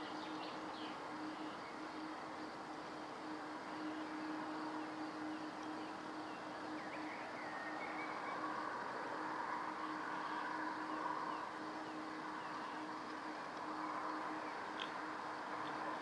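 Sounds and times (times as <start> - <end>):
distant vehicle engine hum: 0.0 - 16.0.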